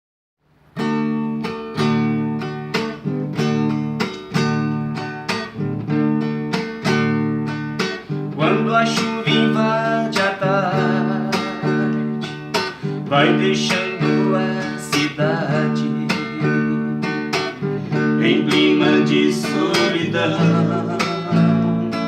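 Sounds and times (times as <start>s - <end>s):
acoustic guitar chords plucked: 0.5s - 22.0s.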